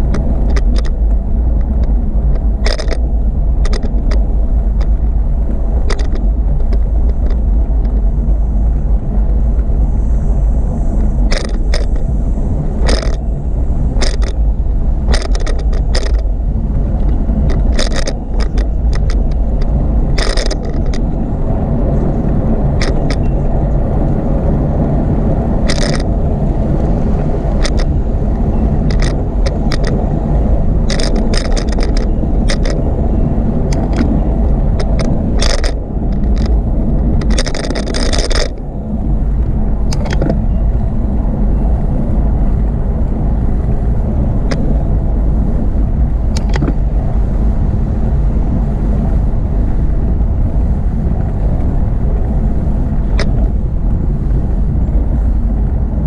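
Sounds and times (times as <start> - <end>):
bicycle riding rumble: 0.0 - 56.0
sharp clicks and rattles: 0.0 - 56.0.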